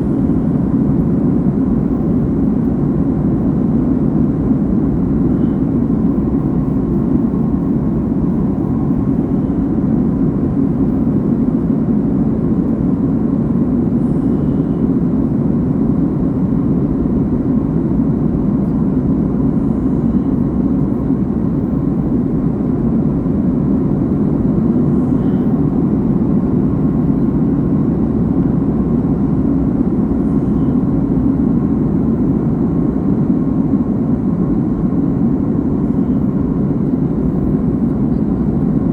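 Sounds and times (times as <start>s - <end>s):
engine and rushing air rumble: 0.0s - 38.9s
faint steady hum: 0.0s - 38.9s.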